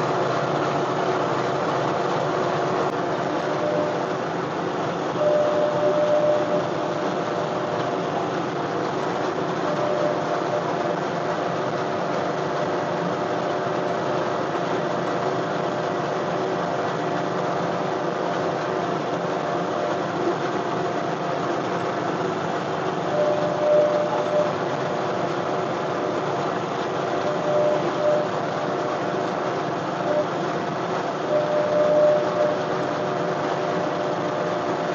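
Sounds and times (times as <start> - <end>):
steady whine: 0.0 - 34.9
tractor diesel engine running: 0.0 - 34.9.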